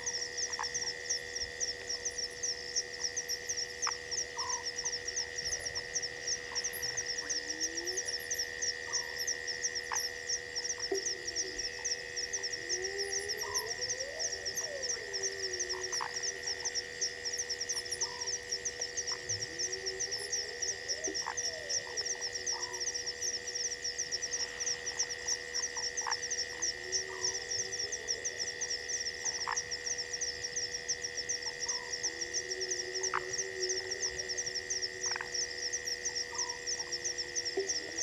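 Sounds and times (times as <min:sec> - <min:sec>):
frogs clicking: 0:00.0 - 0:38.0
frogs croaking: 0:00.0 - 0:38.0
insects chirping: 0:00.0 - 0:38.0.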